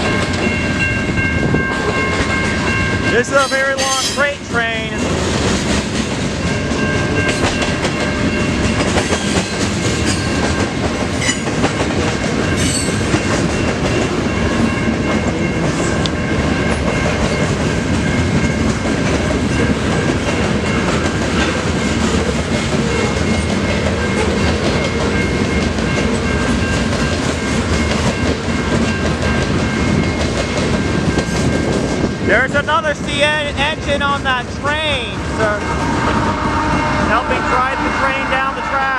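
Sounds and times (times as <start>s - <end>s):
freight train cars clattering: 0.0s - 38.6s.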